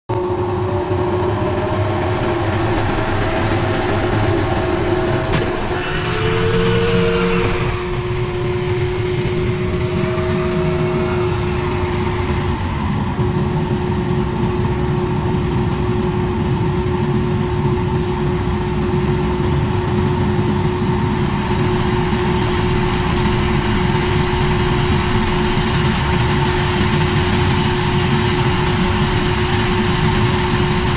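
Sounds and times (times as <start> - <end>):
jet engines whining: 0.1 - 30.9.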